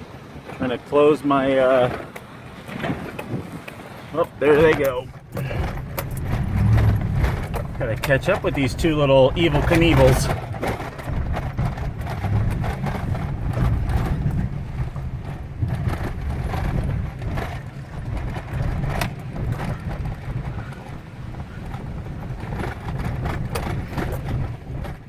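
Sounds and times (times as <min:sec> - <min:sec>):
truck engine and road rumble: 0:00.0 - 0:25.0
rattles and knocks: 0:04.3 - 0:25.0.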